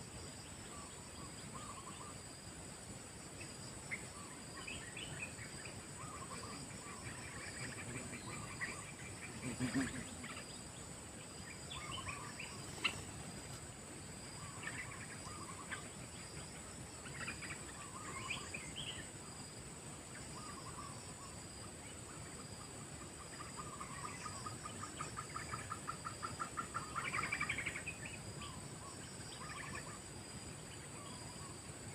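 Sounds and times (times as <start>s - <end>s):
high insect drone: 0.0s - 31.9s
bird calls: 0.6s - 2.2s, 3.4s - 13.6s, 14.3s - 19.2s, 20.1s - 30.1s, 30.7s - 31.7s.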